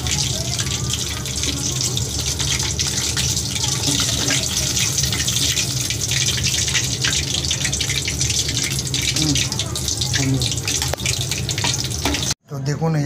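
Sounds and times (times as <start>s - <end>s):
food sizzling in hot oil: 0.0s - 12.4s.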